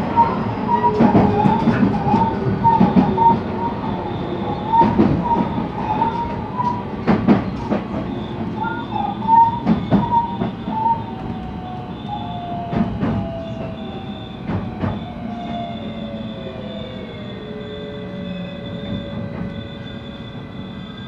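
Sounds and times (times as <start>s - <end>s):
train running rumble: 0.0s - 21.0s
wheels clicking on rail joints: 0.1s - 21.0s.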